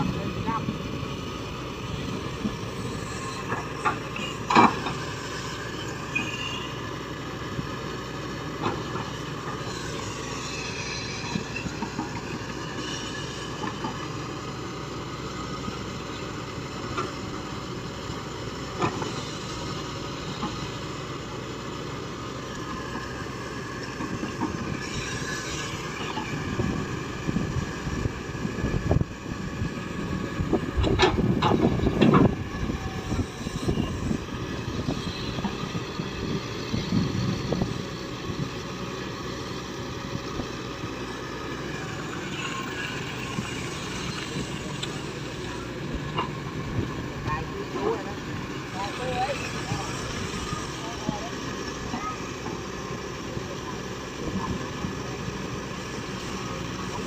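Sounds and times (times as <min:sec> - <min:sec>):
excavator engine running: 0:00.0 - 0:57.0
hydraulics whining: 0:00.0 - 0:57.0.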